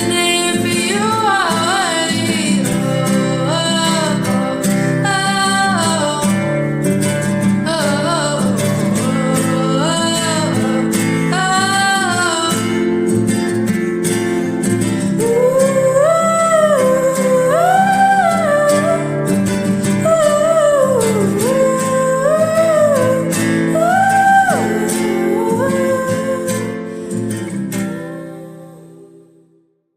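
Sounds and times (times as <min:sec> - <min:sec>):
person singing long melodic notes: 0:00.0 - 0:29.6
acoustic guitar chords: 0:00.0 - 0:29.8.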